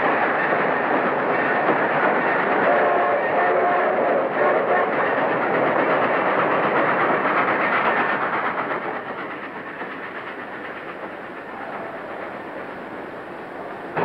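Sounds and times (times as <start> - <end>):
train rushing clatter: 0.0 - 14.0.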